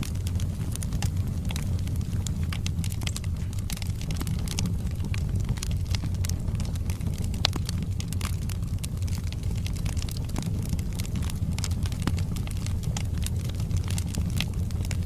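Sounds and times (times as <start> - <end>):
flames rumbling: 0.0 - 15.0
logs crackling and popping: 0.0 - 15.0.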